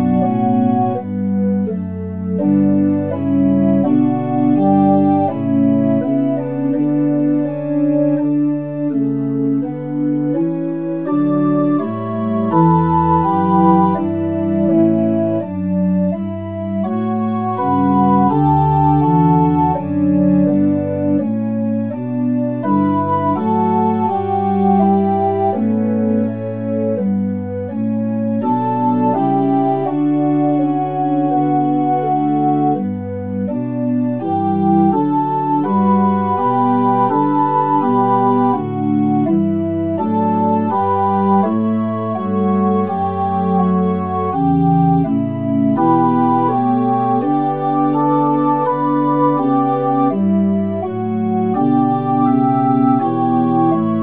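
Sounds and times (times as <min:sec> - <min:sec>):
pipe organ sustained chords: 0:00.0 - 0:54.0.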